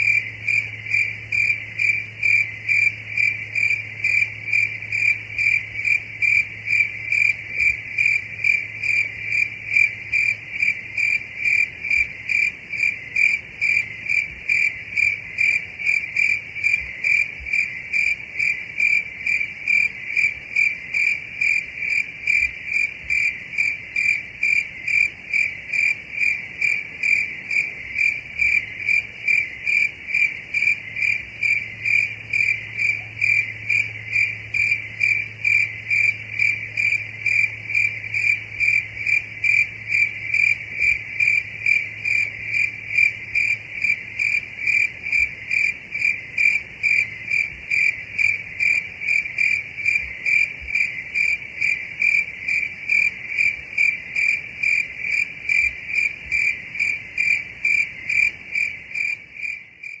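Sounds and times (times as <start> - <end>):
cricket chirping: 0.0 - 60.0.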